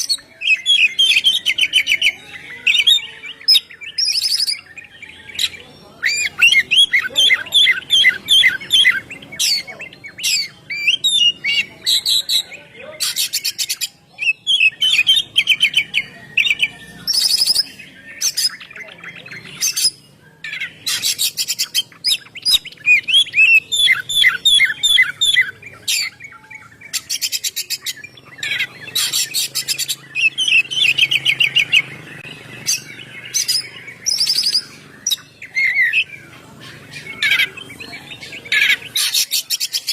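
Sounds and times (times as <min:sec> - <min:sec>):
bird singing trilled song: 0:00.0 - 0:39.9.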